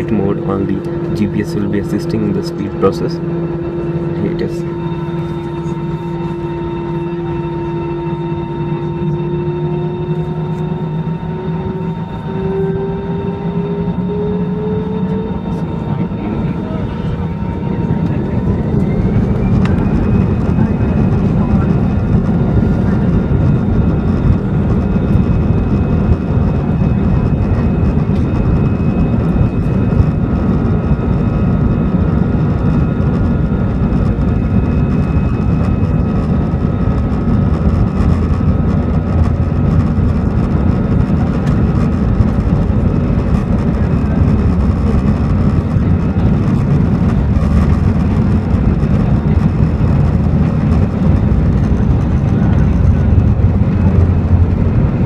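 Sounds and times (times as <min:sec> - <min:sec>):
high engine whine: 0:00.0 - 0:55.0
jet engines deep rumble: 0:00.0 - 0:55.0.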